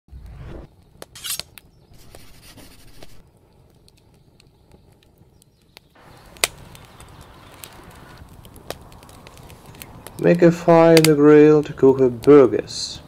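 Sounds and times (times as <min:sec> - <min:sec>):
fire crackling: 0:00.1 - 0:13.0
fire hissing: 0:00.1 - 0:13.0.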